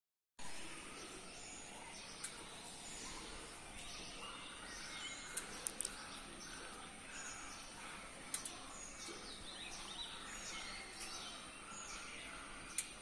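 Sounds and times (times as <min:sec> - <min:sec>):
faint bird chirps: 0:00.8 - 0:13.0.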